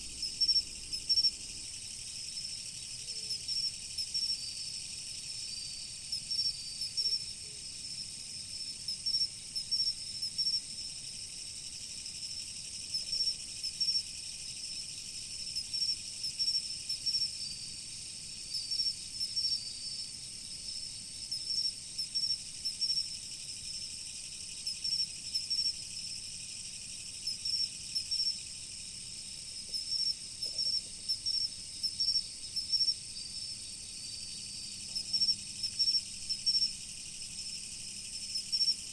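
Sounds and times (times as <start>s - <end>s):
crickets trilling and chirping: 0.0s - 38.9s.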